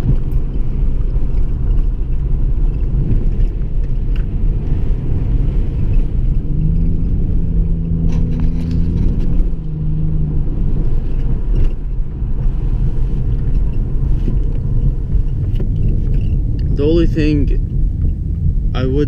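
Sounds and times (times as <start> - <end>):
car engine rumbling while driving: 0.0 - 19.0
exhaust drone: 0.0 - 19.0.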